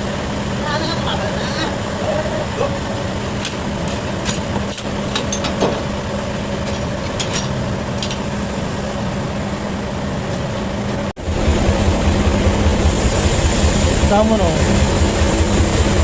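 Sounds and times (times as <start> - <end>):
machine engine idling: 0.0 - 16.0.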